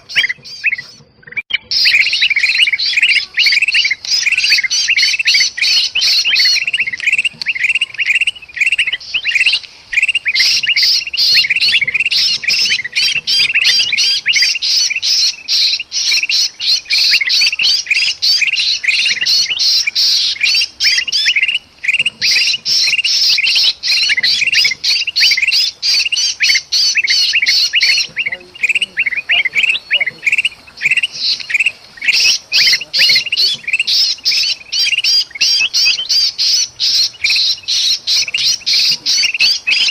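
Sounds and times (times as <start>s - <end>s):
bulbuls chattering and squawking: 0.0s - 39.9s.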